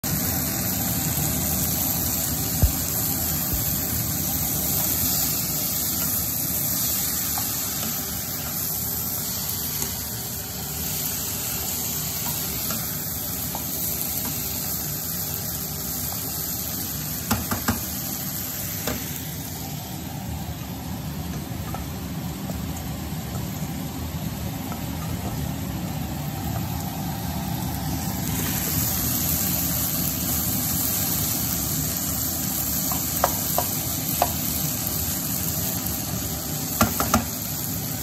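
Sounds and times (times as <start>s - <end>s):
food sizzling in frying pan: 0.0s - 38.0s.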